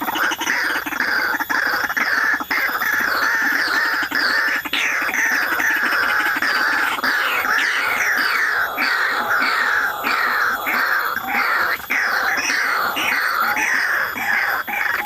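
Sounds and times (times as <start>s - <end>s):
bird harsh calls: 0.0s - 15.0s.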